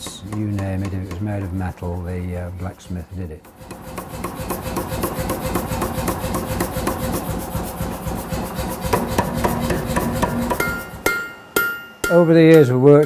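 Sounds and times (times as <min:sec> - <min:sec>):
power hammer striking hot iron: 0:00.0 - 0:01.8, 0:03.4 - 0:13.0
faint machine hum: 0:00.0 - 0:13.0.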